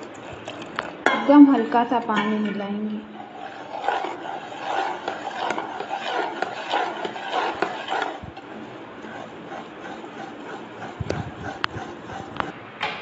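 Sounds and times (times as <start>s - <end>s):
spoon beating thick batter: 0.0s - 12.5s.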